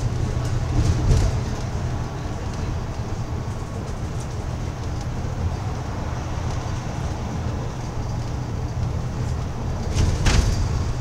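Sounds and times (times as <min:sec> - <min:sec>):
bus engine drone and road rumble: 0:00.0 - 0:11.0.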